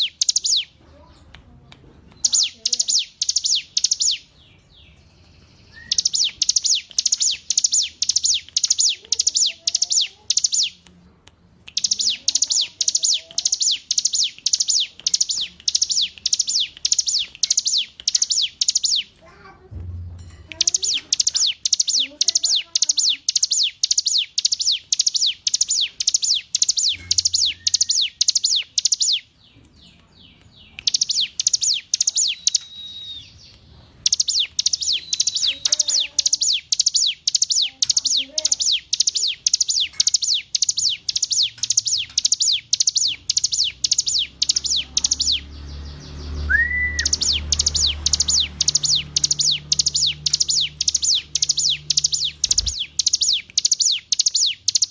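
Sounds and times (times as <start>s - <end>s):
bird singing sharp high notes: 2.2s - 10.8s, 11.8s - 19.2s, 20.5s - 29.6s, 30.2s - 54.9s.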